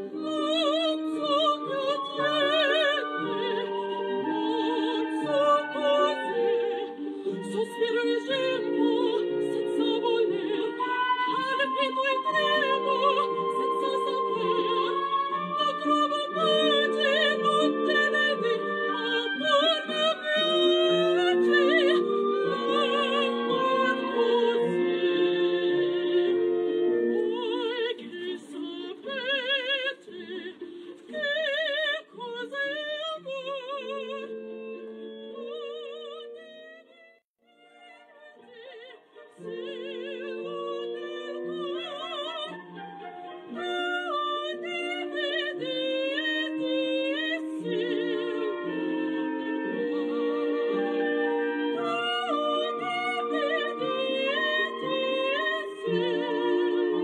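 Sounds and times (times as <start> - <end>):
orchestral accompaniment: 0.0 - 29.4, 39.4 - 57.0
operatic singing with vibrato: 0.0 - 57.0.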